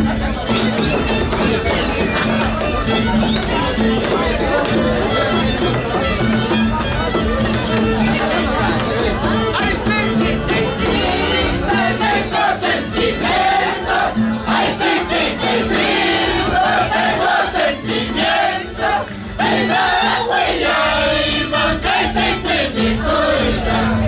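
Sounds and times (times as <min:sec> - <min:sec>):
crowd singing and calling out: 0:00.0 - 0:24.0.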